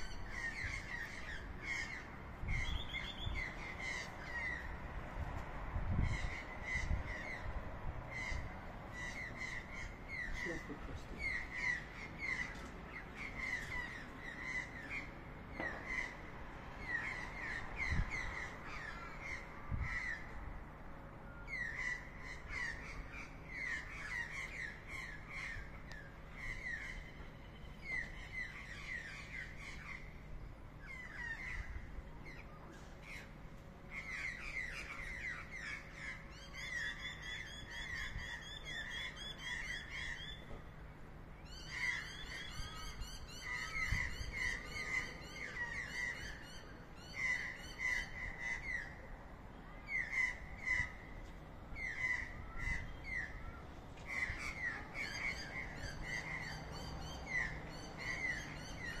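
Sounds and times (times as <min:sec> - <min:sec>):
birds squabbling: 0:00.0 - 0:04.8, 0:08.1 - 0:20.3, 0:21.5 - 0:40.5, 0:41.4 - 0:49.0, 0:49.9 - 0:59.0.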